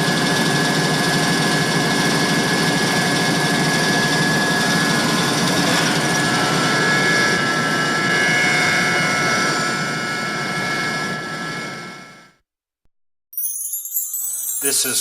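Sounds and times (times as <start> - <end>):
air compressor humming and whining: 0.0 - 12.2.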